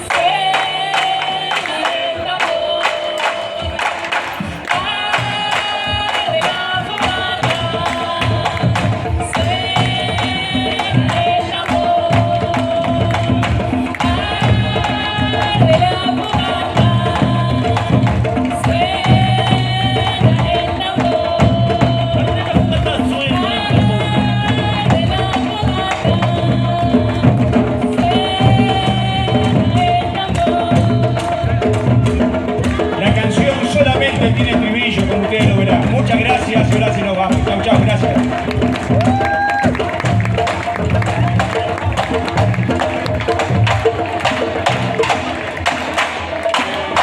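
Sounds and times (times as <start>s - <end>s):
hand drums playing rhythm: 0.0s - 47.0s
voices singing refrain: 0.0s - 47.0s.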